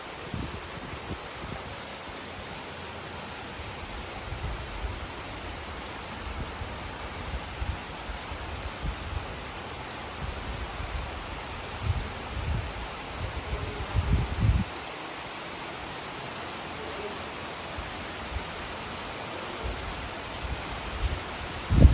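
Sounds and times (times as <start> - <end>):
heavy rain hissing: 0.0 - 21.9.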